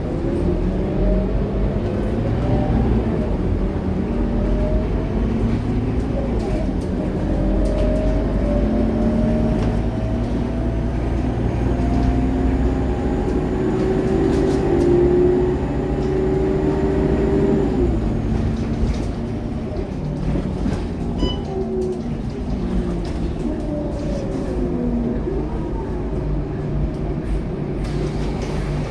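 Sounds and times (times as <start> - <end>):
bus diesel engine droning: 0.0 - 28.9.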